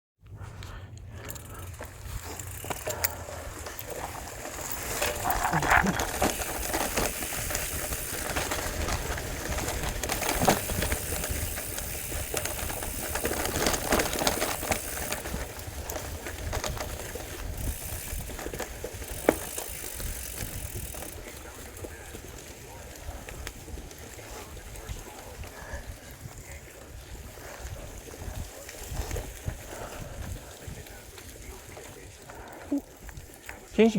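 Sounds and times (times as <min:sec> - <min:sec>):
bicycle riding noise: 0:00.2 - 0:33.9
wind rumbling on microphone: 0:01.8 - 0:33.7.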